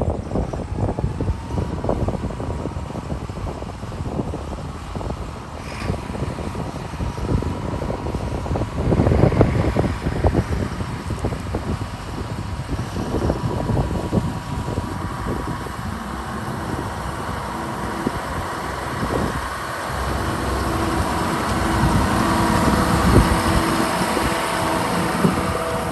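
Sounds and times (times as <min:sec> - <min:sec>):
tractor diesel engine running: 0:00.0 - 0:25.9
wind buffeting microphone: 0:00.0 - 0:25.9.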